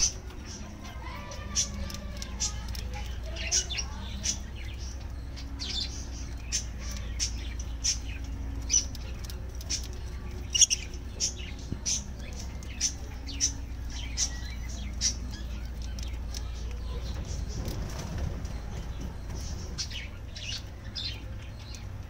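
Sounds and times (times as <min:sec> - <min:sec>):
budgerigars chirping: 0:00.0 - 0:22.0
steady low hum: 0:00.0 - 0:22.0.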